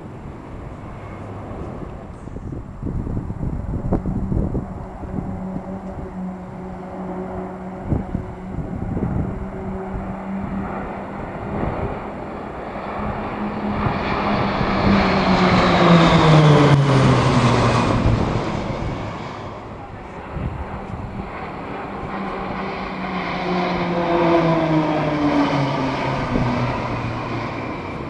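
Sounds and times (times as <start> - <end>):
propeller planes flying past: 0.0 - 28.0.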